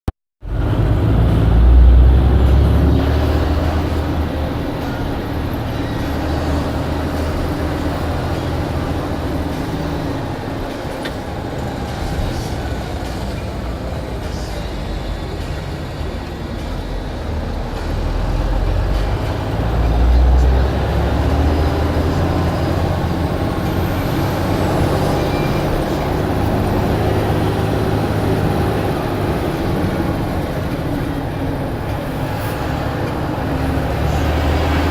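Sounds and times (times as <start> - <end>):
bus diesel engine running: 0.4 - 34.9.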